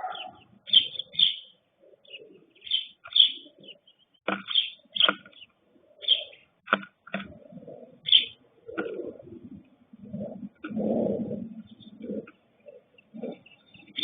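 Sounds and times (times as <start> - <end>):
small birds chirping: 0.0 - 10.7, 11.3 - 14.0
doves cooing: 0.0 - 14.0.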